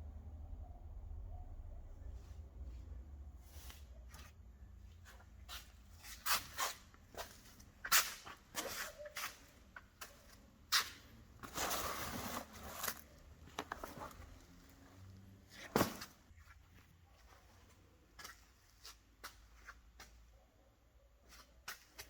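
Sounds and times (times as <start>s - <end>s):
rustling and scraping: 2.3s - 20.2s.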